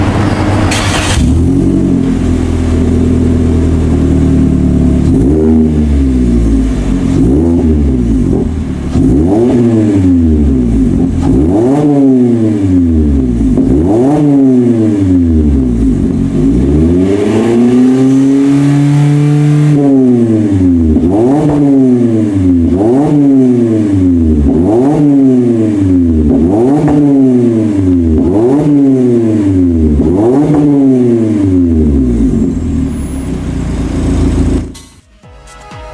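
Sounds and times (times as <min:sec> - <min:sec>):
car exhaust revving: 0:00.0 - 0:35.0.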